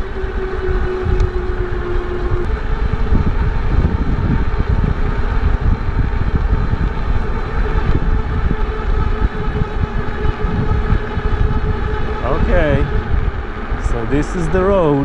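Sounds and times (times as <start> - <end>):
e-bike road noise: 0.0 - 15.0
steady hum: 0.0 - 15.0
wind buffeting microphone: 0.0 - 15.0.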